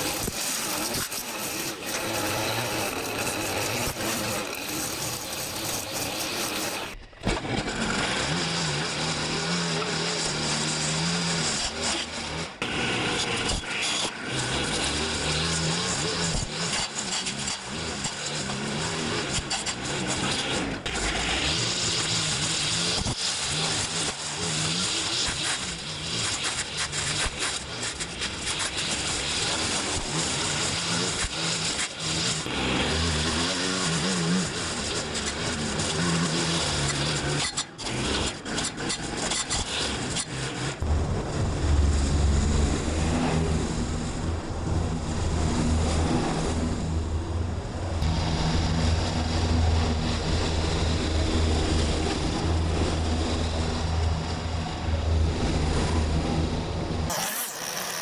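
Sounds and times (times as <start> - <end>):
string trimmer cutting grass: 0.0 - 41.4, 48.0 - 58.0
mower engine at full throttle: 0.0 - 58.0.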